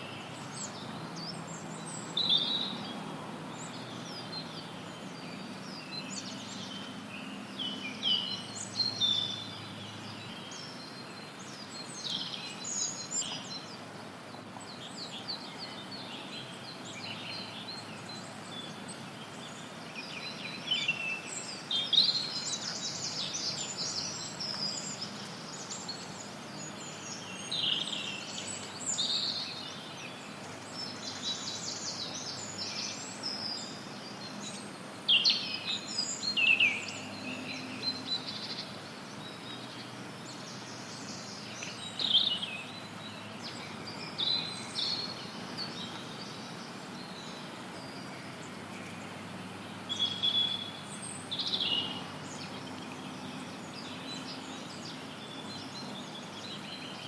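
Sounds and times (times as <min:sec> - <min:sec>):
background hiss: 0:00.0 - 0:57.0
forest birds chirping: 0:00.0 - 0:57.0.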